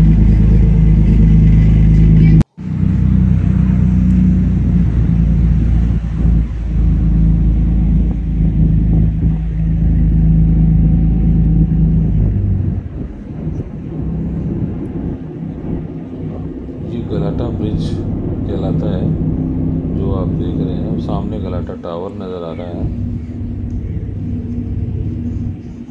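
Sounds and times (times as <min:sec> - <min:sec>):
boat engine low drone: 0:00.0 - 0:25.9.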